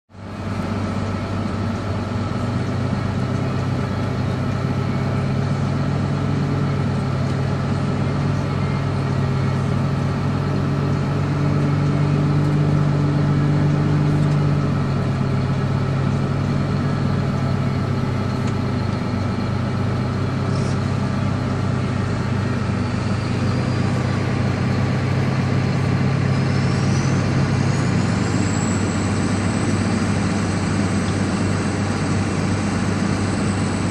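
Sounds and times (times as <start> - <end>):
diesel engine running: 0.1 - 33.9
faint rising whine: 0.2 - 33.9.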